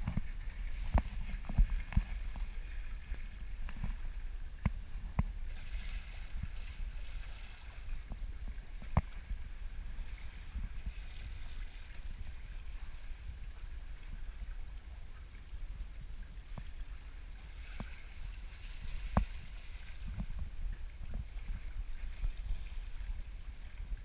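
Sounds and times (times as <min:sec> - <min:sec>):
low wind rumble on microphone: 0:00.0 - 0:24.0
water splashing around boat bow: 0:00.0 - 0:24.0.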